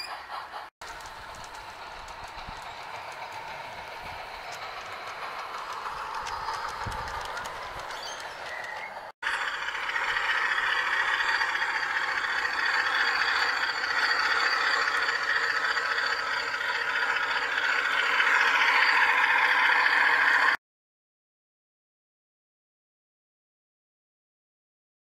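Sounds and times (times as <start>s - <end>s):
model railcar motor whirring: 0.0s - 20.6s
wheels rolling on rails: 0.0s - 20.6s.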